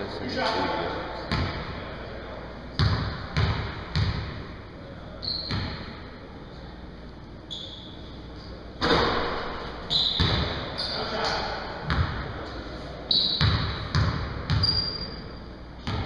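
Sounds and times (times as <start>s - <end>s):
voices in a gym: 0.0s - 16.0s.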